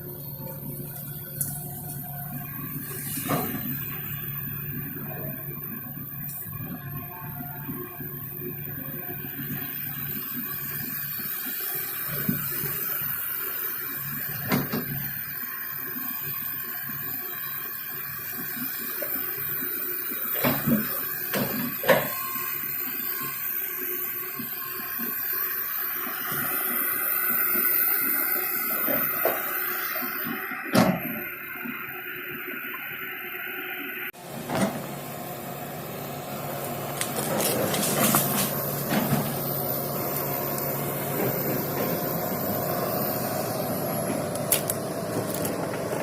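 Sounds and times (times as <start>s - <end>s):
excavator engine running: 0.0s - 46.0s.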